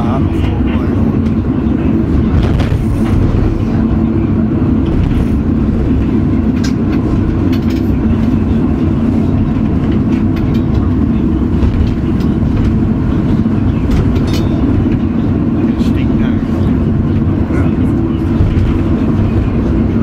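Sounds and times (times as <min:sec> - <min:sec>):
railway car rumbling on track: 0:00.0 - 0:20.0.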